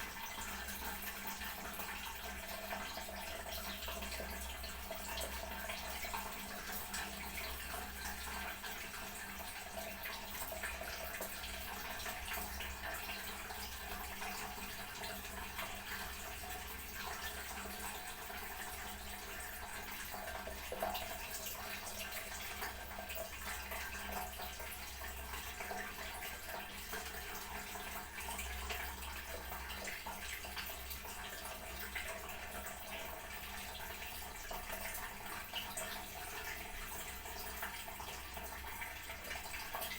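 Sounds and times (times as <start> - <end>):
toilet cistern refilling: 0.0 - 39.9.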